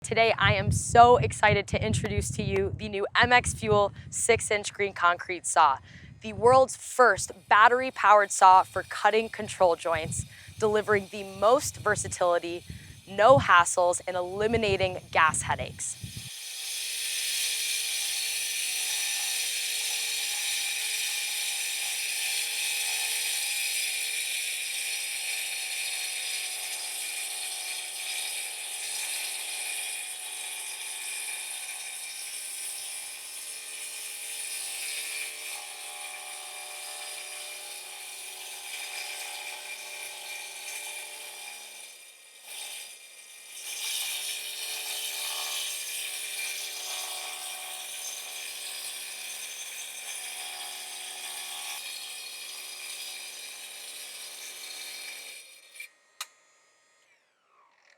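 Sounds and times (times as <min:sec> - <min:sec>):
concrete saw cutting: 0:00.0 - 0:57.9.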